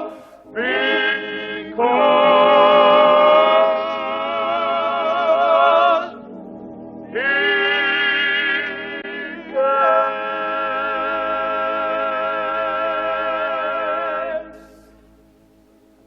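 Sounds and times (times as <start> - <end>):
voices singing a held note: 0.0 - 15.2
faint organ: 0.0 - 16.0.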